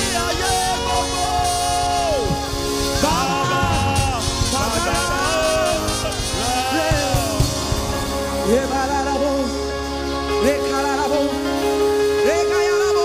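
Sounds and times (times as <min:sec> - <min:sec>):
band accompaniment: 0:00.0 - 0:13.0.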